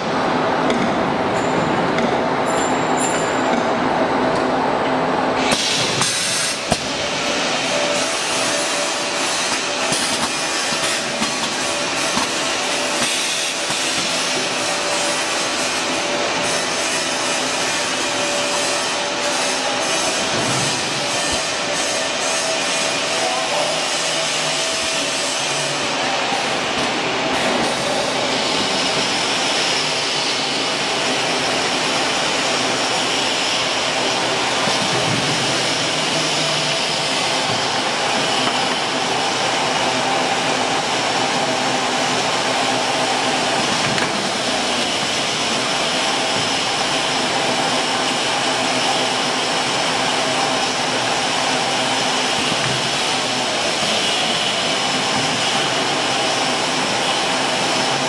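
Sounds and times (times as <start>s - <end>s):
machine whirring: 0.0s - 58.0s.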